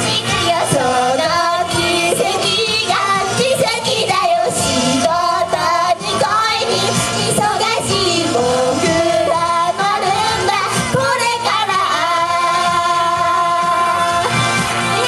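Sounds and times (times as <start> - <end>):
pop backing music: 0.0 - 15.0
women singing pop song: 0.0 - 15.0.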